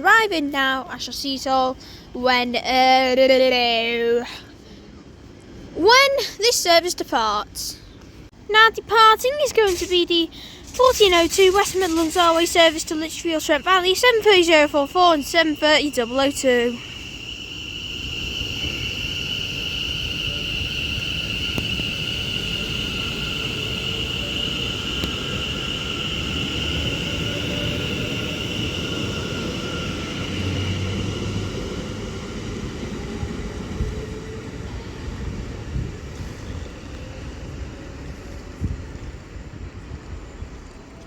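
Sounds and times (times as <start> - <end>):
electric train rumbling: 0.0 - 41.0
train high whine: 0.0 - 41.0.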